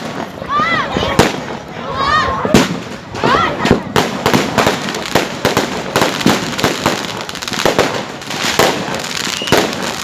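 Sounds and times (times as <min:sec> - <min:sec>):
fireworks cracks and bangs: 0:00.0 - 0:10.0.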